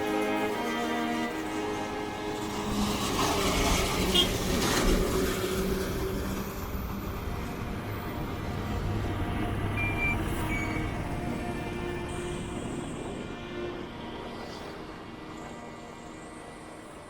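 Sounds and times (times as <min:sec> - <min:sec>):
road and traffic noise: 0:00.0 - 0:17.0.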